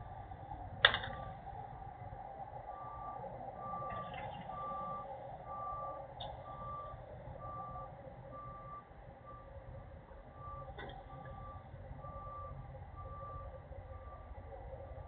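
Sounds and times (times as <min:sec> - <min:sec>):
truck backup alarm beeping: 0:00.0 - 0:15.0.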